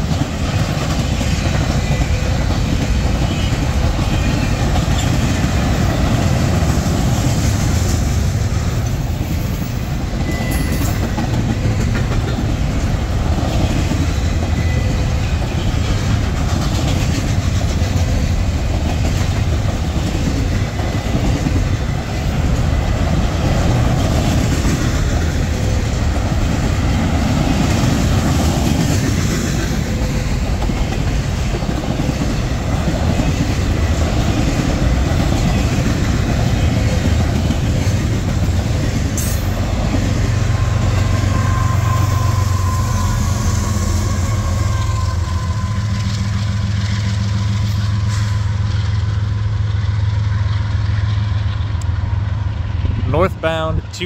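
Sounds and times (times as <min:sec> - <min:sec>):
freight train wheels clattering: 0:00.0 - 0:52.8.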